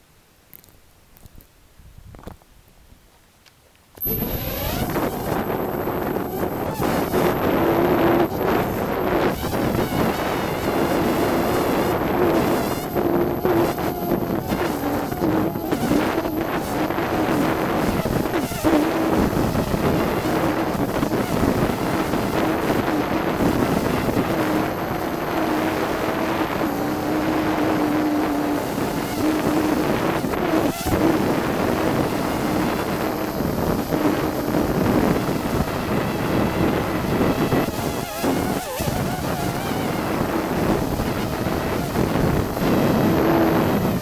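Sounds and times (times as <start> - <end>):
drone propellers whining: 4.0 - 44.0
wind on microphone: 4.0 - 44.0.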